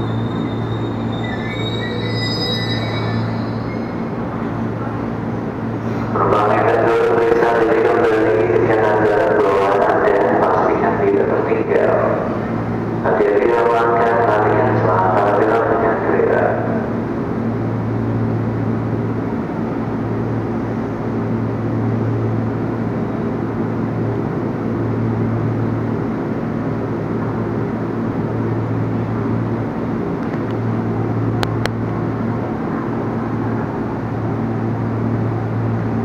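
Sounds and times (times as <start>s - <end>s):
train equipment humming: 0.0s - 36.0s.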